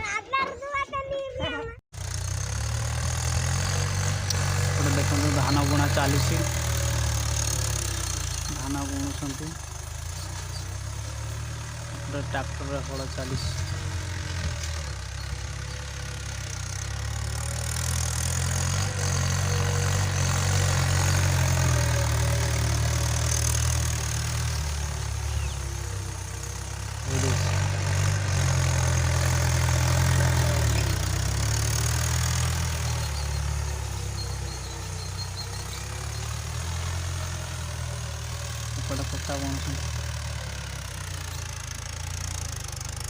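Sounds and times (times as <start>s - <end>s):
tractor engine droning: 2.0s - 43.0s.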